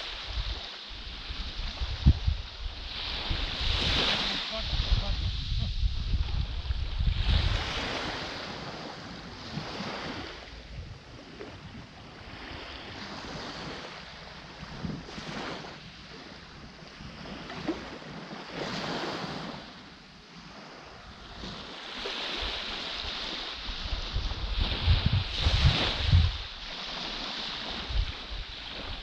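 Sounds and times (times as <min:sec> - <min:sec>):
small waves breaking on sand: 0:00.0 - 0:29.0.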